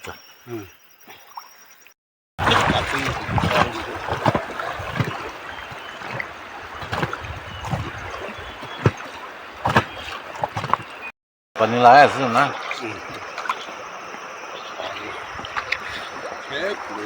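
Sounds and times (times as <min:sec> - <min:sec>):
river water rushing: 0:02.4 - 0:17.0
sharp splashes: 0:02.4 - 0:17.0.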